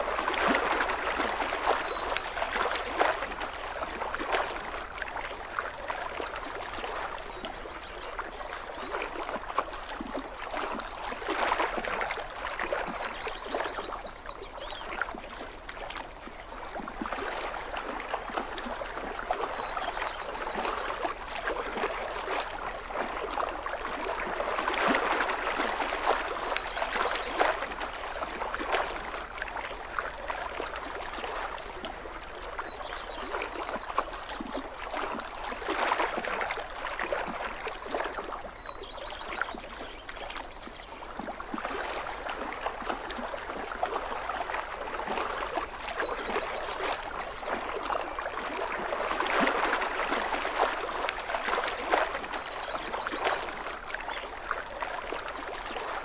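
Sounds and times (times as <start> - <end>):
small waves lapping on rocks: 0.0 - 56.0.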